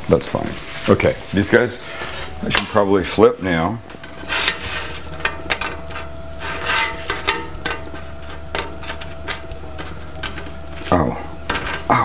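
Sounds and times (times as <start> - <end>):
steady hum: 0.0 - 12.0
spatula scraping on griddle: 0.6 - 11.9.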